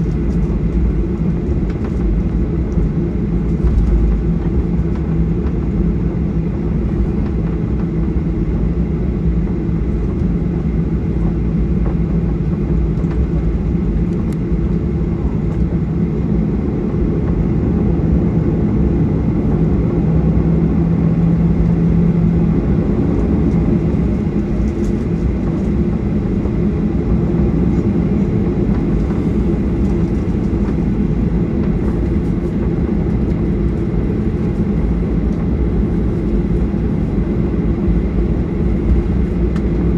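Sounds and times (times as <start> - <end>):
jet engine cabin rumble: 0.0 - 39.9
low hum: 0.0 - 39.9.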